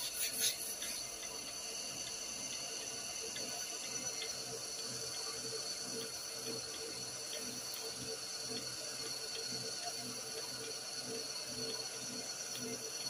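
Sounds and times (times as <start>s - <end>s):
workshop machine humming: 0.0s - 13.0s.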